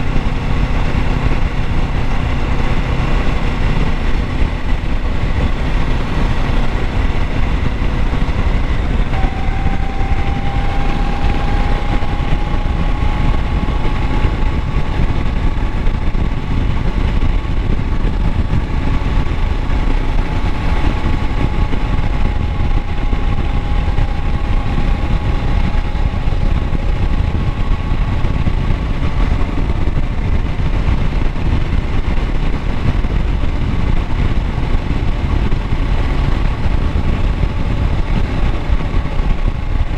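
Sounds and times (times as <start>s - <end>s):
faint steady whine: 0.0s - 39.9s
motorcycle engine running: 0.0s - 39.9s.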